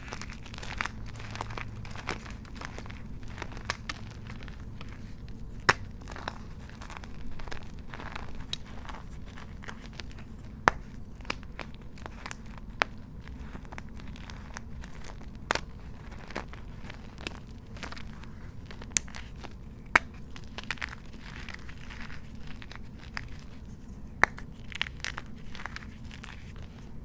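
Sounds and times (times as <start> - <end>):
chalk crumbling by hand: 0.0 - 27.0
steady low hum: 0.0 - 27.0.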